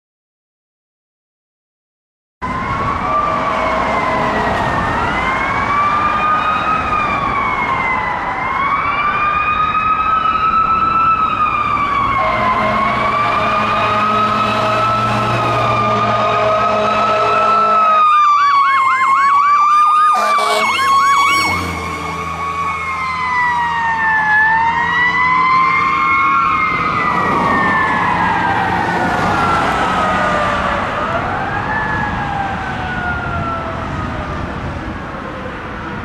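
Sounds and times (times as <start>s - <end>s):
fire truck siren wailing: 2.4s - 36.0s
truck engine rumble: 2.4s - 36.0s.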